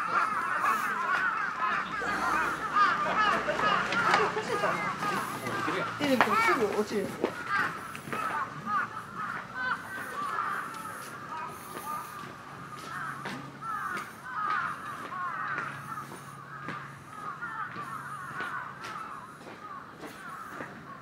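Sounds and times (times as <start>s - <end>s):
flock of birds chattering: 0.0s - 21.0s.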